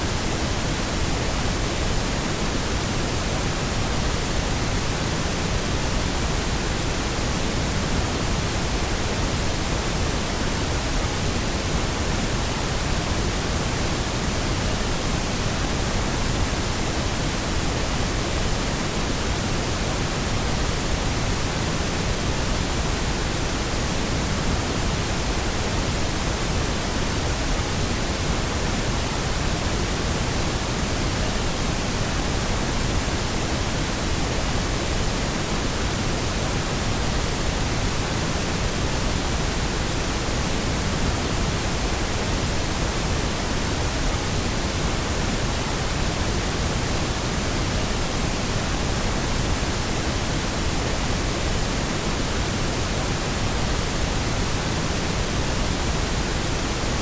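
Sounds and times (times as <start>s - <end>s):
steady pink noise: 0.0s - 57.0s.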